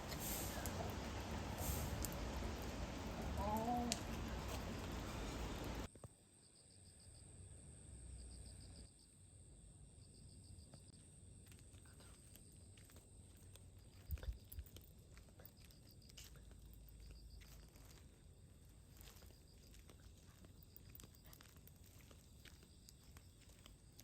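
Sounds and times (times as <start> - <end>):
insects chirping softly: 0.0 - 24.0.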